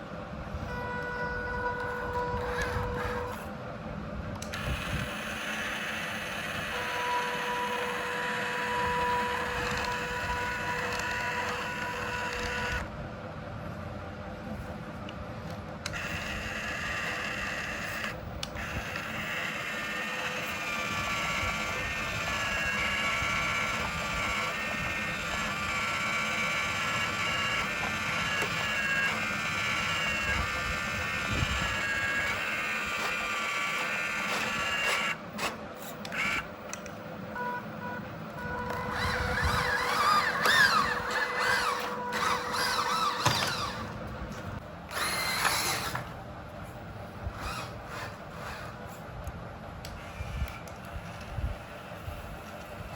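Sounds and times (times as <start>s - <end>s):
electric motors whining: 0.6s - 3.6s, 4.4s - 12.9s, 15.8s - 52.9s.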